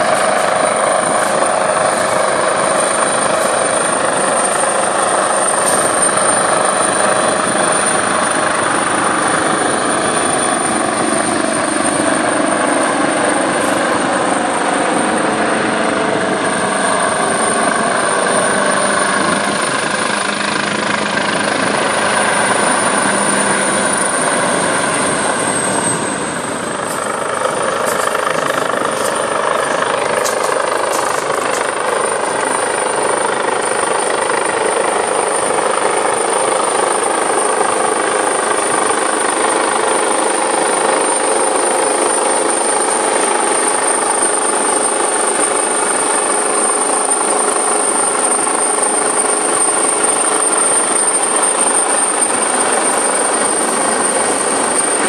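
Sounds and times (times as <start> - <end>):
helicopter rotor and engine: 0.0 - 55.0
thin high whine: 0.0 - 55.0.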